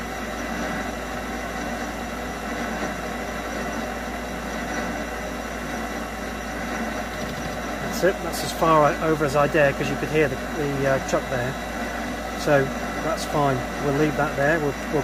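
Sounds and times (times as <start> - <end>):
mini lathe running: 0.0 - 15.0.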